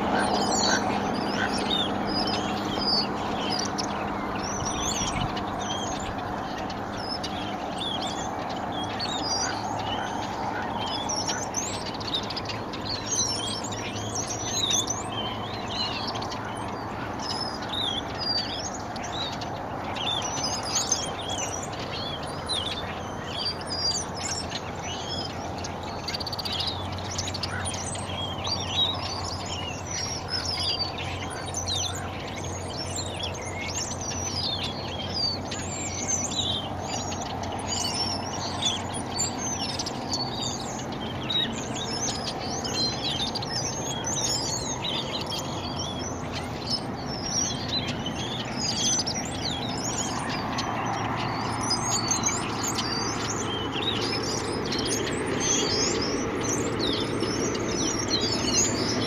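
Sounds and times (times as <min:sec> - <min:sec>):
flock of songbirds chirping: 0:00.0 - 0:59.0.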